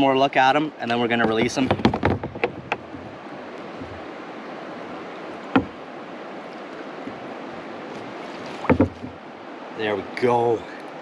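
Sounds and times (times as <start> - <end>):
water rushing beside boat: 0.0 - 11.0.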